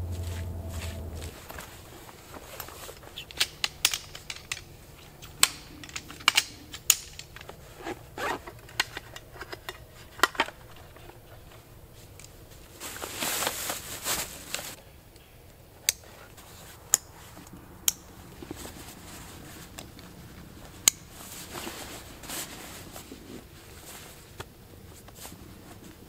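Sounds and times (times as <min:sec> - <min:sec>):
nylon fabric and straps rustling: 0:00.0 - 0:14.9, 0:16.0 - 0:26.0.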